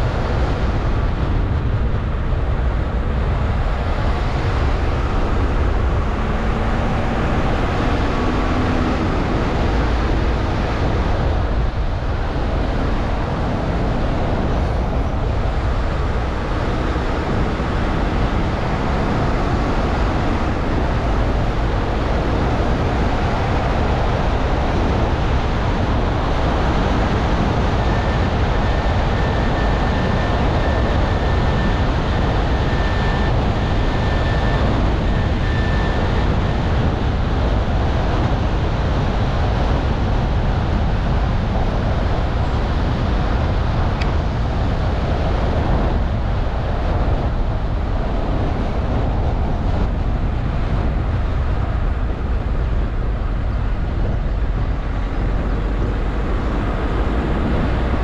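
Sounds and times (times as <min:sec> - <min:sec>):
car tyre and road noise: 0:00.0 - 0:58.0.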